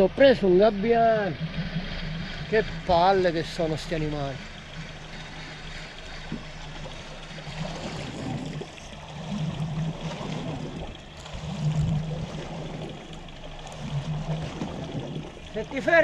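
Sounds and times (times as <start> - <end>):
low hum: 0.0 - 16.0
water lapping against boat hull: 0.0 - 16.0.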